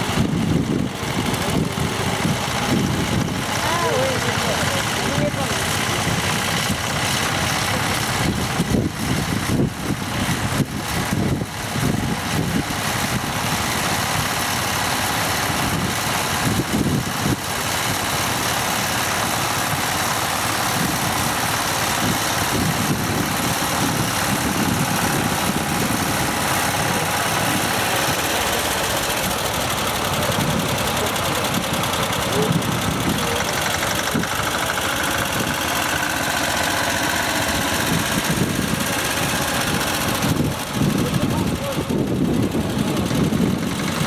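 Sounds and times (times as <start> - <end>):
two-wheel tractor engine running: 0.0 - 44.0.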